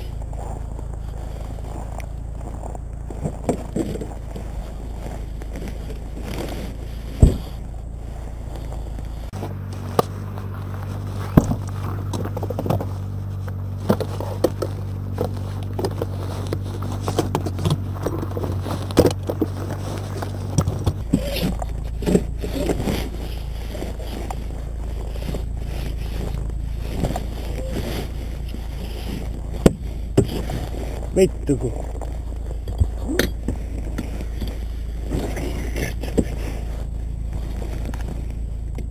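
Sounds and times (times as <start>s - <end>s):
steady low hum: 0.0s - 38.9s
walker frame scraping and knocking: 0.0s - 38.9s.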